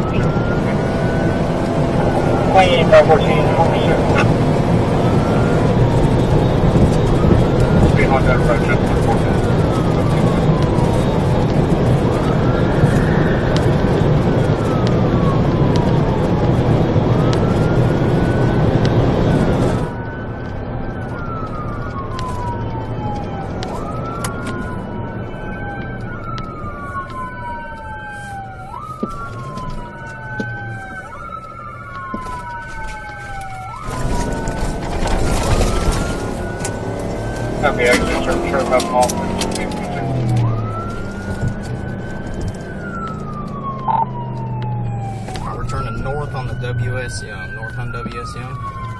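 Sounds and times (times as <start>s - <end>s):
car engine and road noise: 0.0s - 48.9s
police siren wailing: 0.0s - 48.9s.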